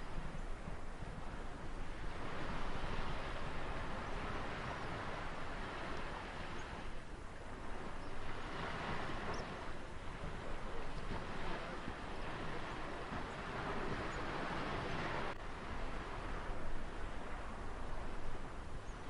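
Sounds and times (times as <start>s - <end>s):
ocean waves washing ashore: 0.0s - 19.0s.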